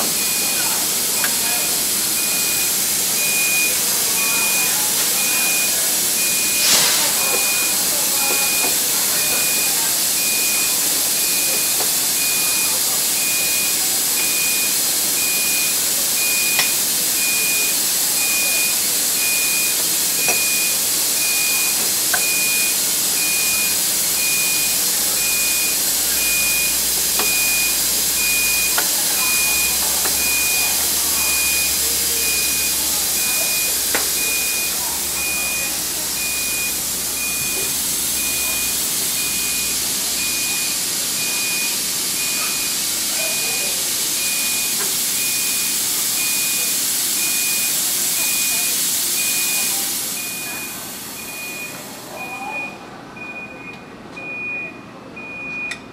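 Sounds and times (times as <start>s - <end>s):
locomotive equipment hiss and whine: 0.0s - 52.2s.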